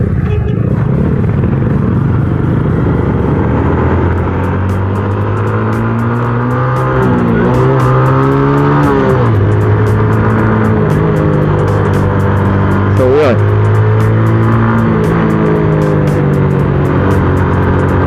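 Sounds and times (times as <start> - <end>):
motorcycle engine accelerating: 0.0 - 18.0
rushing wind and road noise: 0.0 - 18.0.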